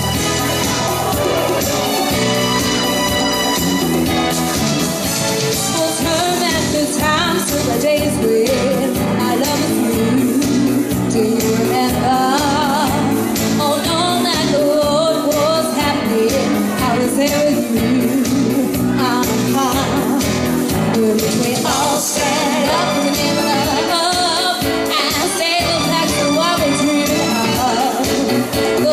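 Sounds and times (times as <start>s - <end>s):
backing track with drums and bass: 0.0s - 28.9s.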